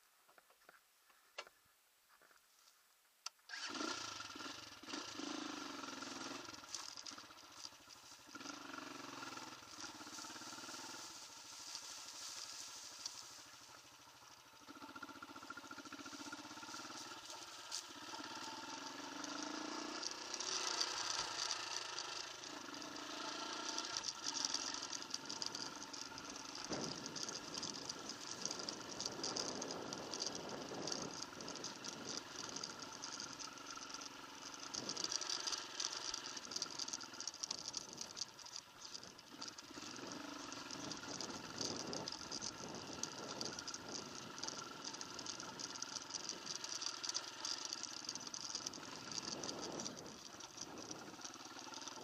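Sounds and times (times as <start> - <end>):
motorcycle engine revving: 3.5 - 52.0.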